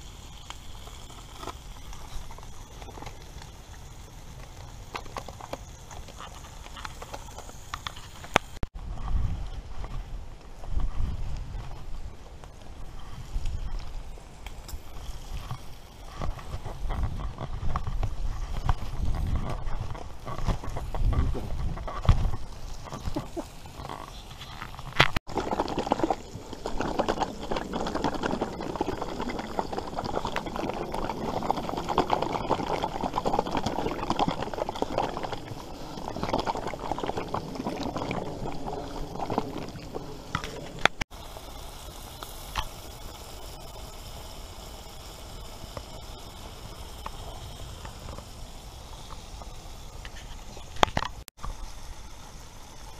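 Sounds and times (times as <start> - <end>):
steady hiss: 0.0 - 52.9.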